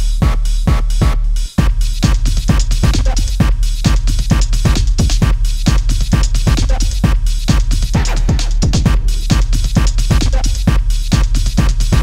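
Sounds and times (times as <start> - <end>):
electronic dance music: 0.0 - 12.0
low kick drum: 0.0 - 12.0.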